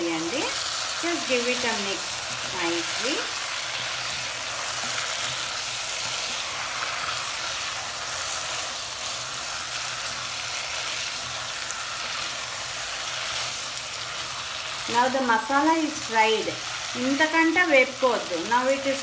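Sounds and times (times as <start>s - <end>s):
curry sizzling in hot oil: 0.0s - 19.0s.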